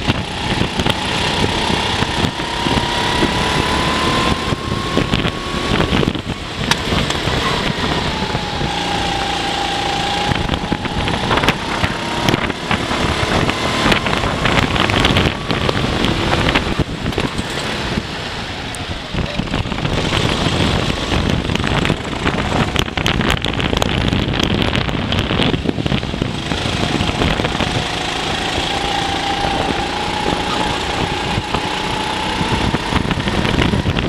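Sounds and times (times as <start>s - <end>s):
go-kart engine running: 0.0s - 34.0s.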